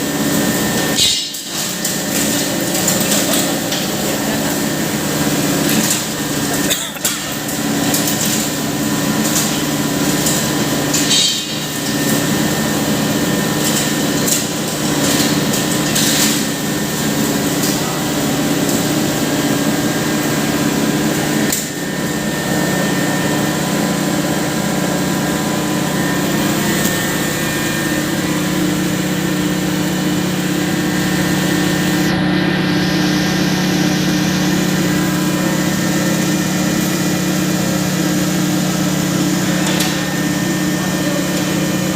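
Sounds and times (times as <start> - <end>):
grinding machine humming: 0.0 - 41.9.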